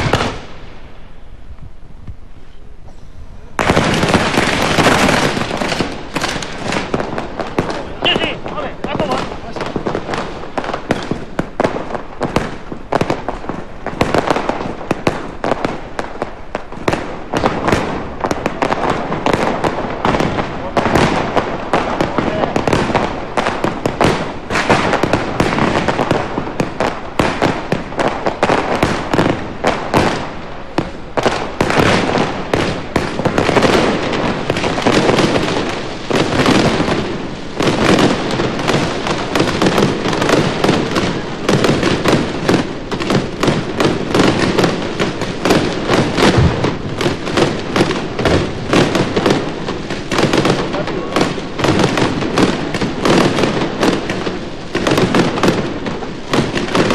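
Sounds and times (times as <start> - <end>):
fireworks cracks and bangs: 0.0 - 56.9.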